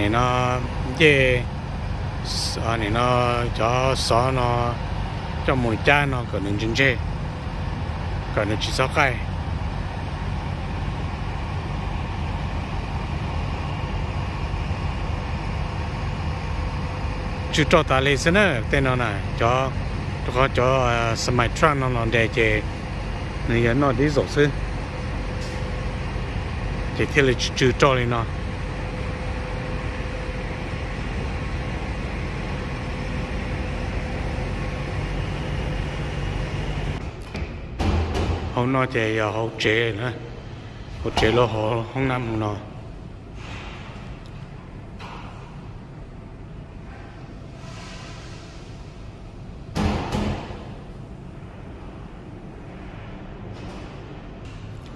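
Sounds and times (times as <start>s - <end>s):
diesel trucks idling: 0.0s - 54.9s.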